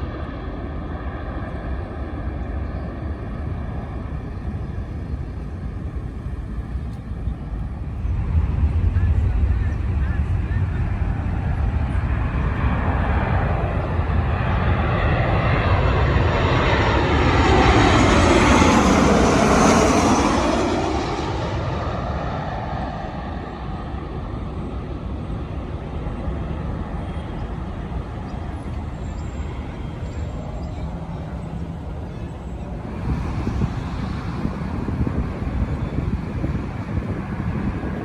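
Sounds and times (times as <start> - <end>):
jet airliner flying overhead: 0.0 - 38.0.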